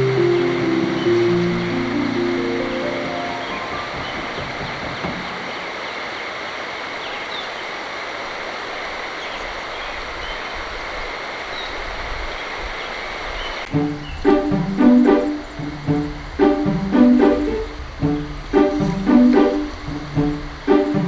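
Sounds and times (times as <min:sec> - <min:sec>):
stream water rushing: 0:00.0 - 0:11.6, 0:13.7 - 0:21.0.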